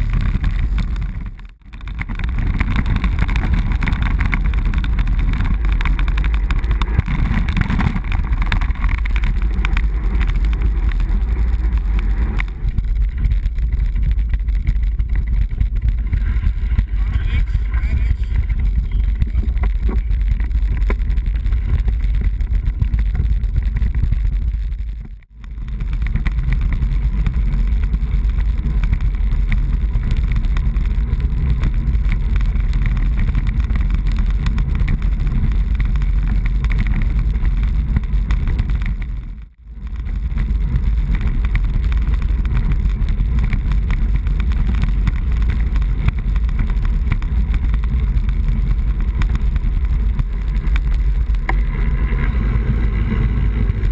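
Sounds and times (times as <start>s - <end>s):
road noise: 0.0s - 53.9s
wind rushing over microphone: 0.0s - 53.9s.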